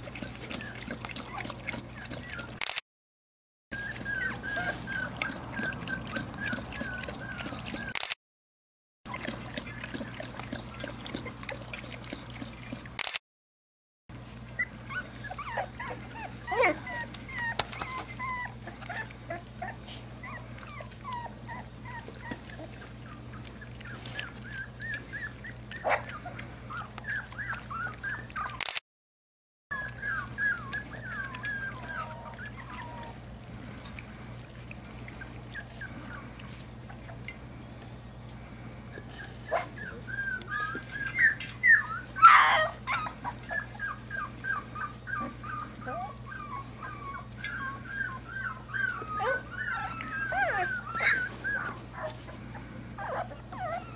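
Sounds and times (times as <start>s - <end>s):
puppies whimpering and yipping: 0.0s - 2.6s, 3.7s - 8.0s, 9.1s - 12.9s, 14.2s - 28.6s, 29.7s - 53.9s.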